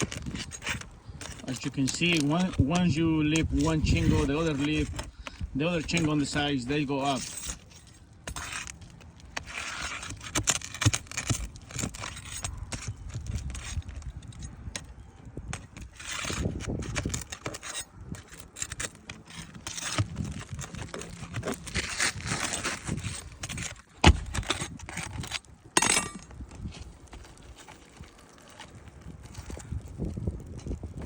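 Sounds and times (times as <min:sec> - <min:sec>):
roof shingles scraping and crackling: 0:00.0 - 0:31.0.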